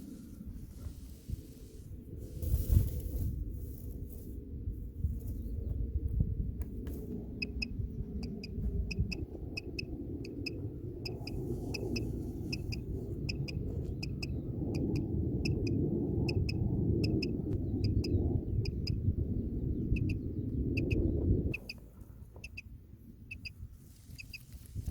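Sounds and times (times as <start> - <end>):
low rumble: 0.0 - 23.4.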